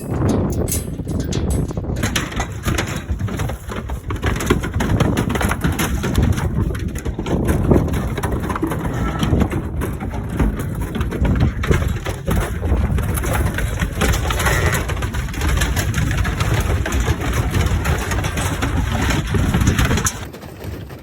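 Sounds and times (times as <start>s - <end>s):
hooves clattering on truck deck: 0.0s - 21.0s.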